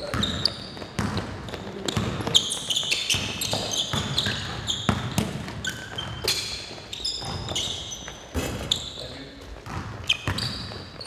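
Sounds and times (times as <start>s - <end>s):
basketball bouncing on wooden floor: 0.0s - 6.5s, 7.1s - 8.8s, 9.5s - 11.0s
sneakers squeaking: 0.0s - 11.0s.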